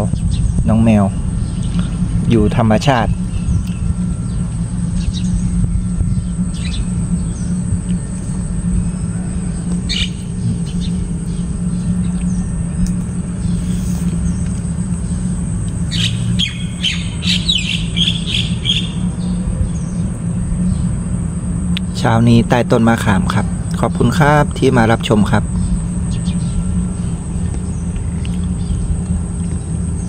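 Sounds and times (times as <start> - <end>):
birds chirping: 0.0 - 30.0
low hum: 0.0 - 30.0.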